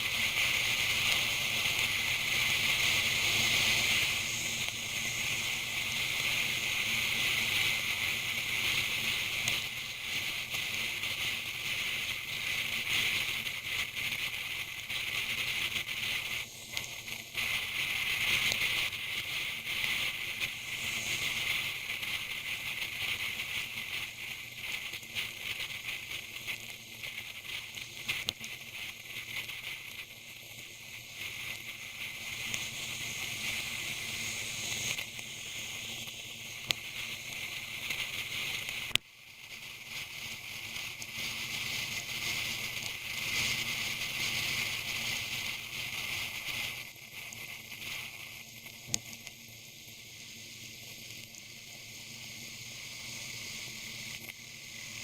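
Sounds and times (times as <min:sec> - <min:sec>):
wind and rain rushing hiss: 0:00.0 - 0:48.6, 0:49.6 - 0:55.0
small crackling ticks: 0:00.0 - 0:55.0.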